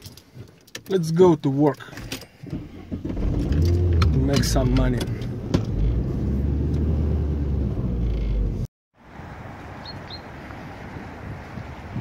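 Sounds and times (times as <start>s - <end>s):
outdoor air noise: 0.0s - 12.0s.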